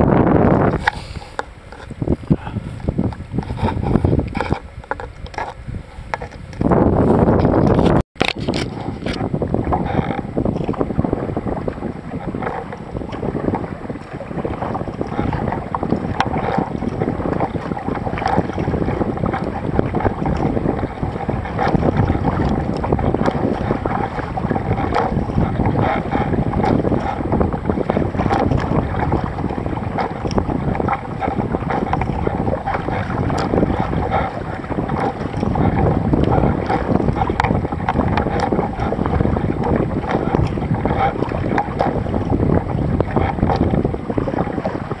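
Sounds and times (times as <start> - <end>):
water splashing from paddling: 0.0 - 45.0
wind rumbling on microphone: 0.0 - 45.0.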